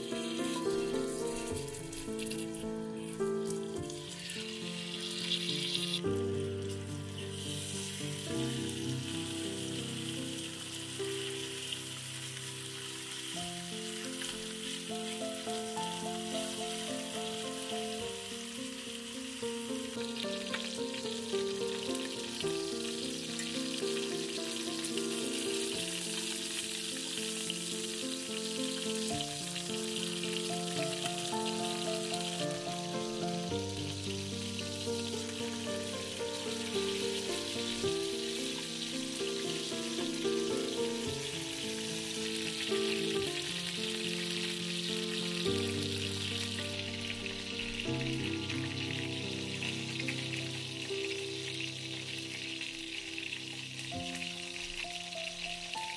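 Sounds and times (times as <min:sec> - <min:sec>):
background music: 0:00.0 - 0:52.5
food sizzling in hot oil: 0:00.0 - 0:55.9.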